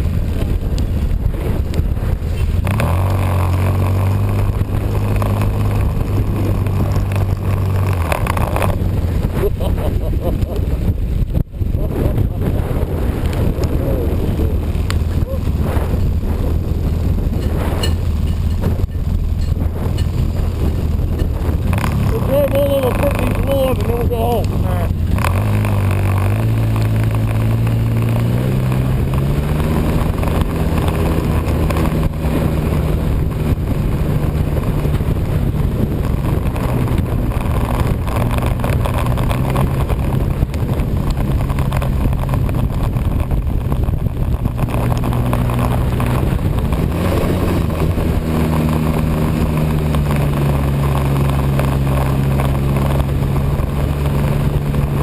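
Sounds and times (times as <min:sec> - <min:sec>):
vehicle engine running: 0:00.0 - 0:55.0
wind and running noise: 0:00.0 - 0:55.0.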